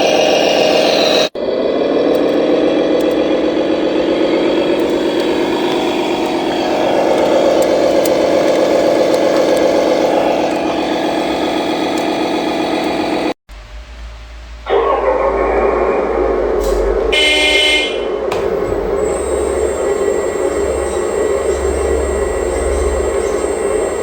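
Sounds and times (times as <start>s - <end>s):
toy truck motor drone: 0.0s - 13.4s, 16.3s - 24.0s.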